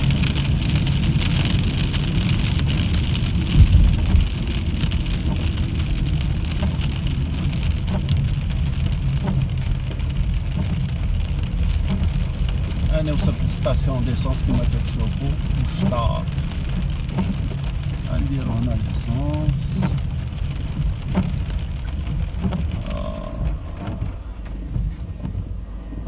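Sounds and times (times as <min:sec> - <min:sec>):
engine and road rumble: 0:00.0 - 0:26.0
rain on car: 0:00.0 - 0:26.0
tyres hissing on wet road: 0:00.0 - 0:26.0.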